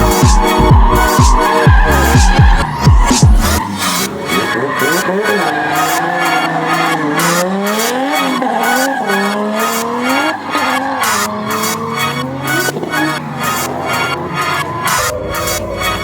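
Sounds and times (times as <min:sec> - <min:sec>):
car engine revving: 0:00.0 - 0:16.0
electronic music with steady beat: 0:00.0 - 0:16.0
tyres squealing: 0:00.0 - 0:16.0.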